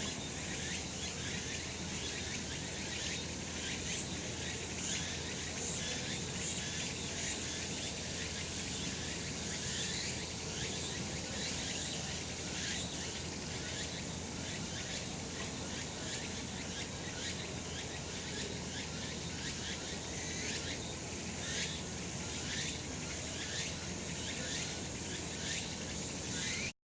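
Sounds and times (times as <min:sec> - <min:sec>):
cicadas singing: 0:00.0 - 0:26.7
short repeated insect calls: 0:00.0 - 0:26.7.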